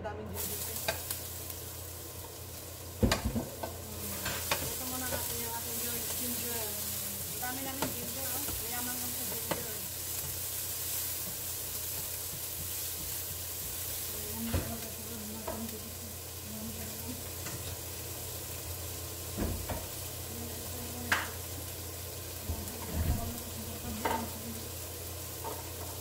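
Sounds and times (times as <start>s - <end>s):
garlic sizzling in oil: 0.1s - 26.0s.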